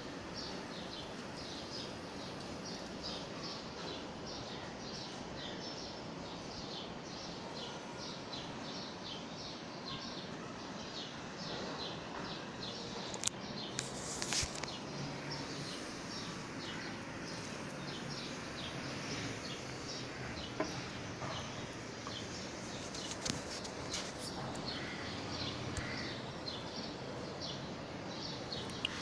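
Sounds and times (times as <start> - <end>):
small birds chirping: 0.0 - 29.0
steady hiss: 0.0 - 29.0.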